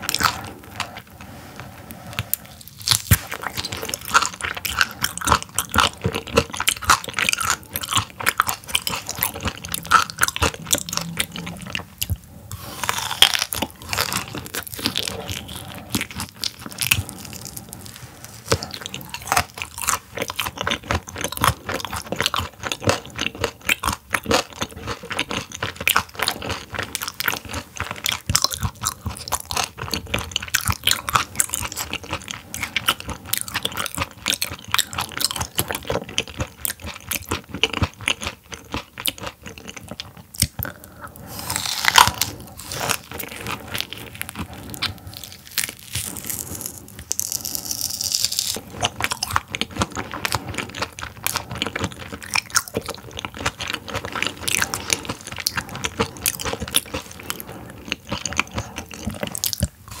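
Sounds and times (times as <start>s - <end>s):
crunching and chewing raw fish: 0.0s - 60.0s.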